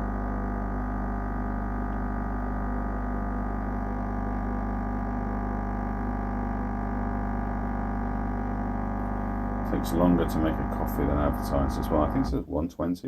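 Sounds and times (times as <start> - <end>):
espresso machine pump buzzing: 0.0 - 12.4.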